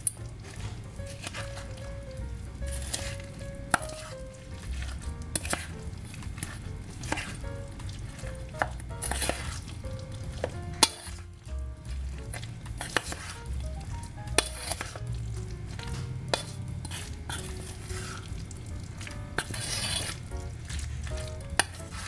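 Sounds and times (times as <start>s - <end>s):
squelching batter mixing: 0.0s - 22.0s.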